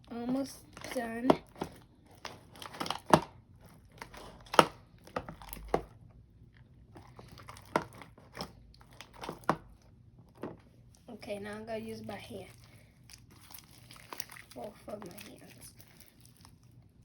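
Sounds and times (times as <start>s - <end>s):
sticky slime squelching: 0.0s - 9.9s, 10.8s - 17.0s.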